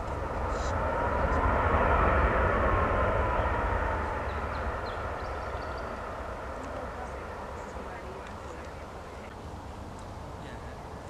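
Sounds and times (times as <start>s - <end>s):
jet airliner passing: 0.0s - 9.4s.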